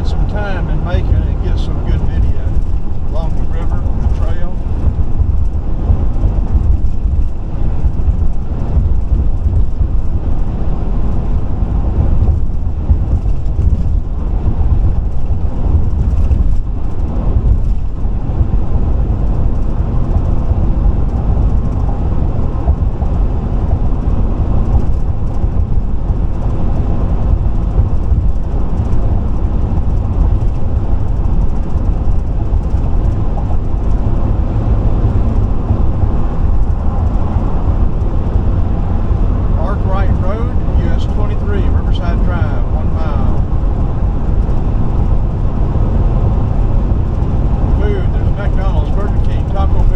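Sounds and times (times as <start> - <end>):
car driving at highway speed: 0.0 - 49.9.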